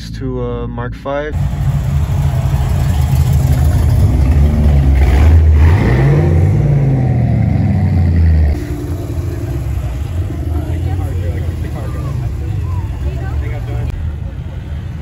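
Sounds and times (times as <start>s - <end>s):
engine revving: 1.4s - 14.0s
cars driving past rumbling: 1.4s - 15.0s.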